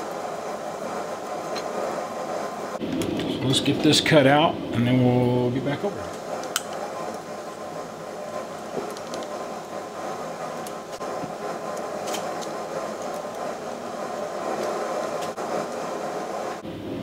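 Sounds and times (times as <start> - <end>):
machine running steadily: 0.0 - 17.0.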